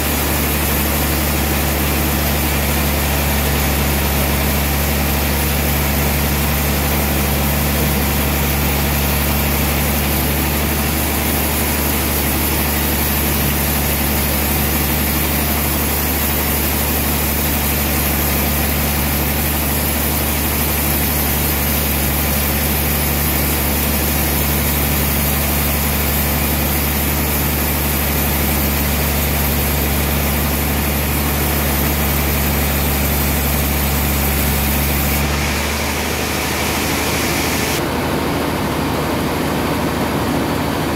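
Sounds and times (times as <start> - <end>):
band saw running: 0.0 - 40.9.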